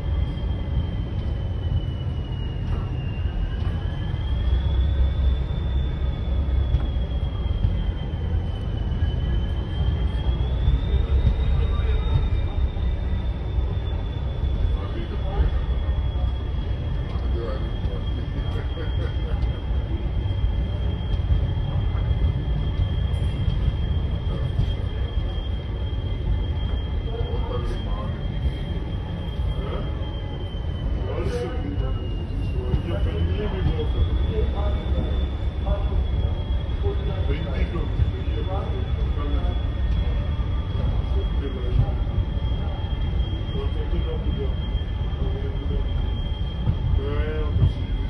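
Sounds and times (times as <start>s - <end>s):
thin high whine: 0.0s - 48.0s
train wheels rumbling on rails: 0.0s - 48.0s.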